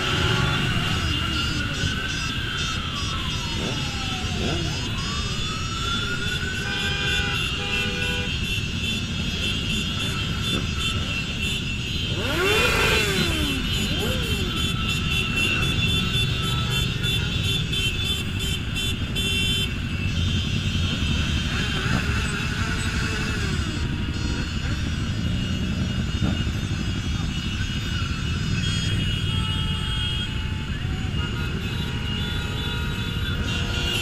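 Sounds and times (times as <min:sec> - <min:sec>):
motorcycle engines revving: 0:00.0 - 0:34.0
motorcycle engines rumbling: 0:00.0 - 0:34.0.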